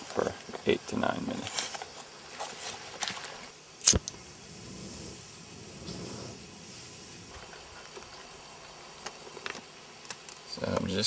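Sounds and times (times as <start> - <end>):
gas burner hissing: 0.0 - 11.0.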